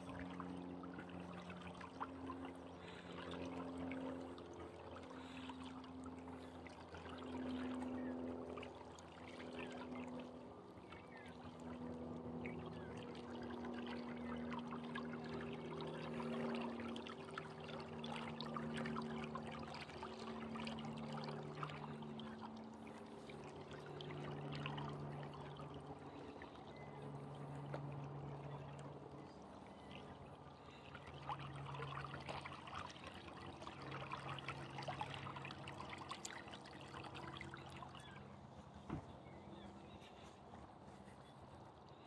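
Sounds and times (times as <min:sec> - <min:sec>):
small waves lapping: 0:00.0 - 0:42.0.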